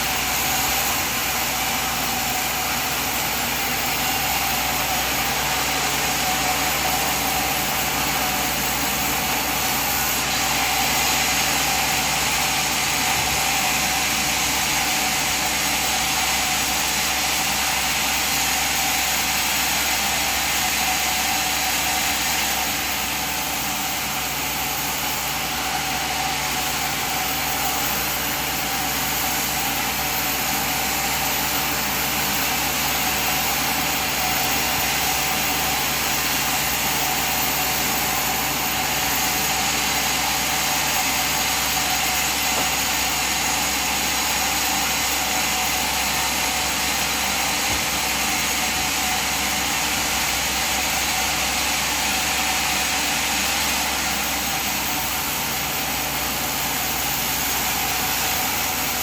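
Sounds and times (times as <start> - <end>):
sawmill machine droning: 0.0 - 59.0.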